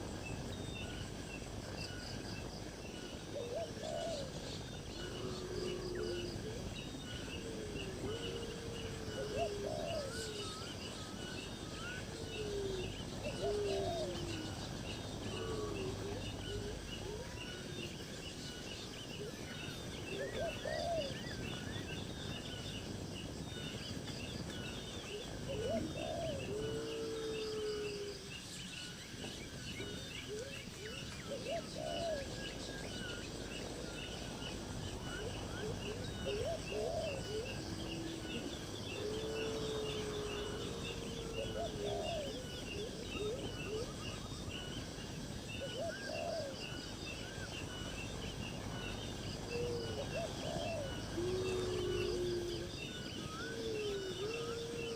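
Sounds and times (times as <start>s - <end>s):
bird low call: 0.0s - 54.9s.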